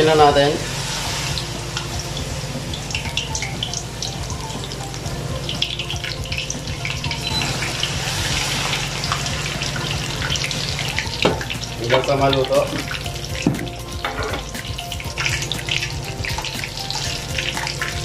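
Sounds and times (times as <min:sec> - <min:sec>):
shrimp sizzling in hot oil: 0:00.0 - 0:18.0.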